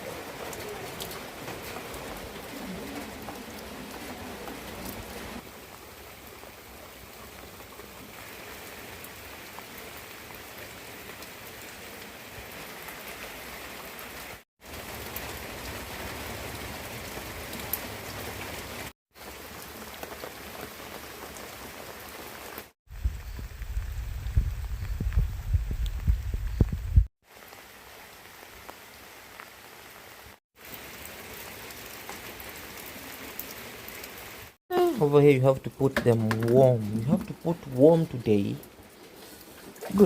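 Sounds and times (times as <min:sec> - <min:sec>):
steady rain pattering: 0:00.0 - 0:40.0.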